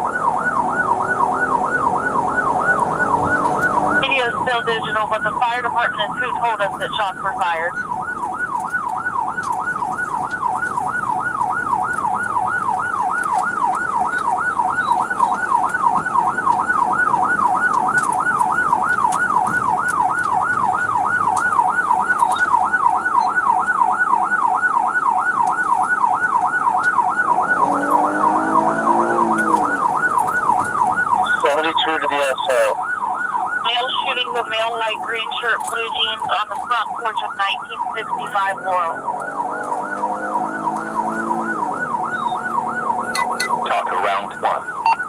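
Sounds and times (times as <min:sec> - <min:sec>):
police siren yelping: 0:00.0 - 0:45.0.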